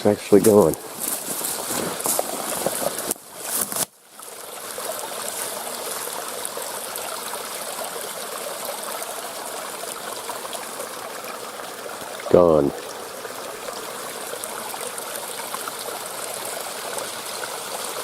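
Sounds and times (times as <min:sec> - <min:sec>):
stream running and trickling: 0:00.0 - 0:18.0.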